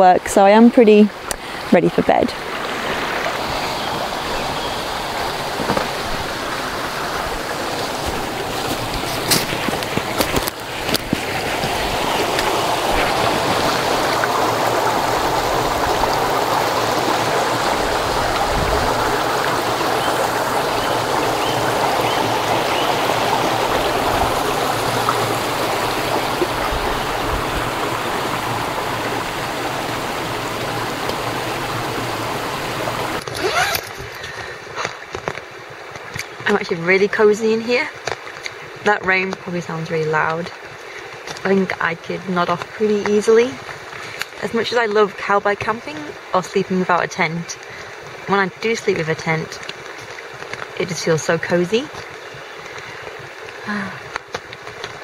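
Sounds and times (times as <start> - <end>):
brook babbling over rocks: 0.0 - 55.0.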